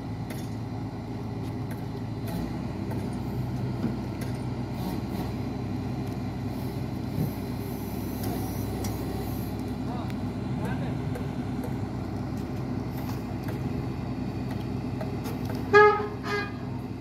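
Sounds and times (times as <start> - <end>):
excavator low mechanical hum: 0.0 - 17.0.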